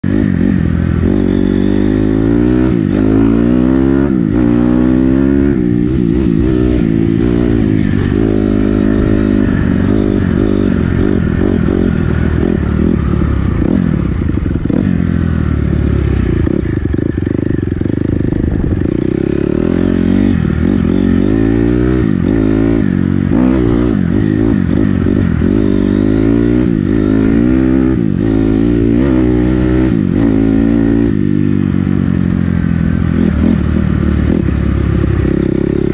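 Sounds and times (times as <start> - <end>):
small vehicle engine revving: 0.0 - 35.9.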